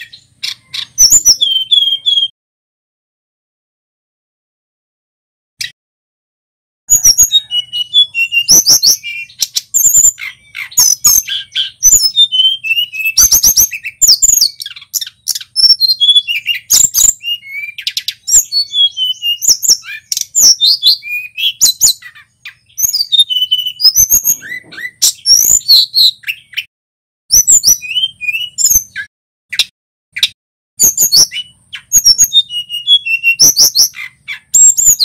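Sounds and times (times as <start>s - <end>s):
bird singing high chirps and whistles: 0.0s - 2.3s, 6.9s - 26.7s, 27.3s - 35.0s.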